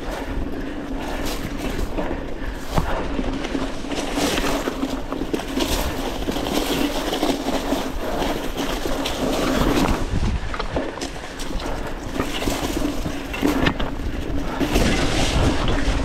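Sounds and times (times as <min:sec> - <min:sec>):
bike rattling and clicking: 0:00.0 - 0:16.0
tyres rolling over dirt: 0:00.0 - 0:16.0
wind rushing over microphone: 0:00.0 - 0:16.0.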